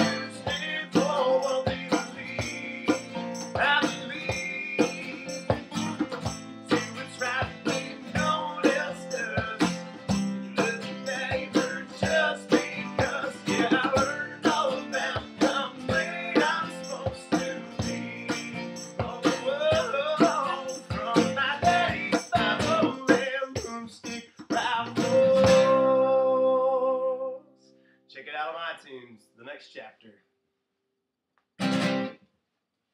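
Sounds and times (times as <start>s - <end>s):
acoustic guitars strummed: 0.0s - 26.6s, 31.6s - 32.2s
man singing: 0.0s - 27.4s.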